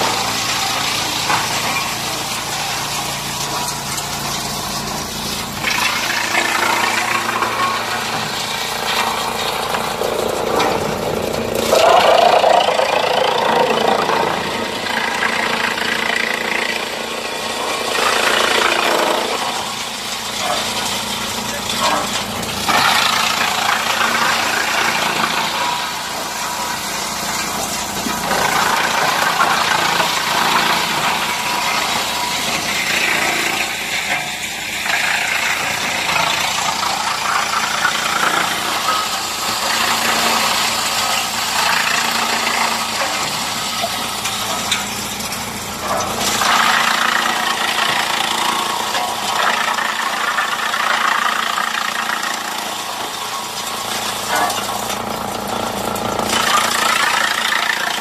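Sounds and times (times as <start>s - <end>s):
wood chipper grinding logs: 0.0s - 58.0s.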